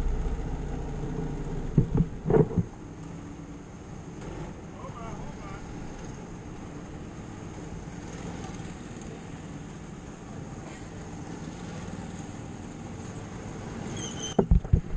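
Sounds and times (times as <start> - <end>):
go-kart engine idling: 0.0 - 13.8.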